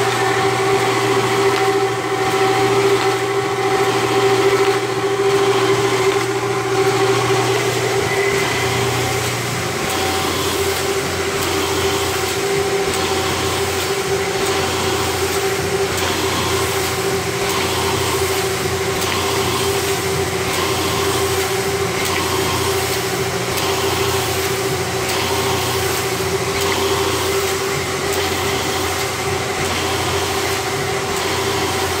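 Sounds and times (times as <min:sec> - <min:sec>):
motor hum: 0:00.0 - 0:32.0
rhythmic mechanical clatter: 0:00.0 - 0:32.0.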